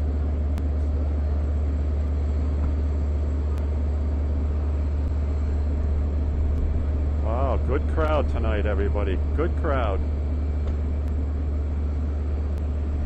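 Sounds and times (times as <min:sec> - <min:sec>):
diesel locomotive idling: 0:00.9 - 0:13.0.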